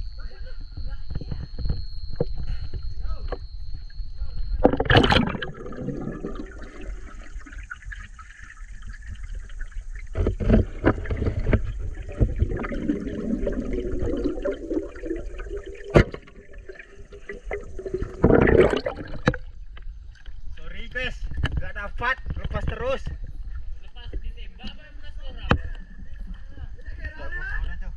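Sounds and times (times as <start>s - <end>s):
underwater rumble and bubbling: 0.7s - 24.5s.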